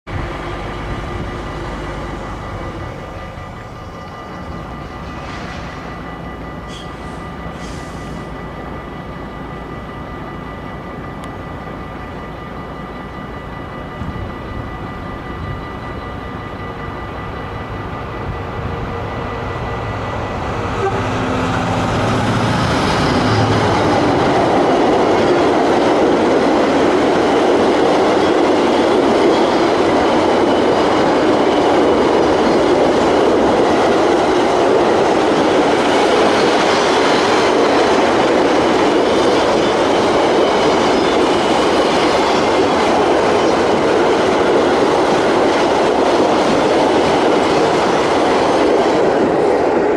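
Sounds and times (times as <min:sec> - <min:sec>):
diesel locomotive engine: 0:00.1 - 0:49.9
train wagons rumbling and clattering: 0:00.1 - 0:49.9.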